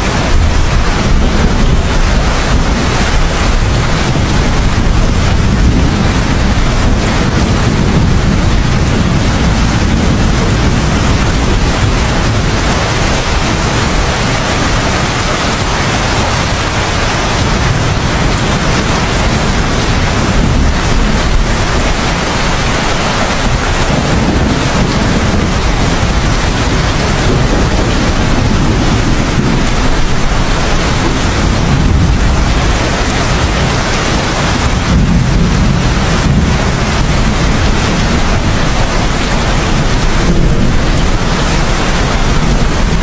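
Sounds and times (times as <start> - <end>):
heavy rain: 0.0 - 43.0
low rumble: 0.0 - 43.0.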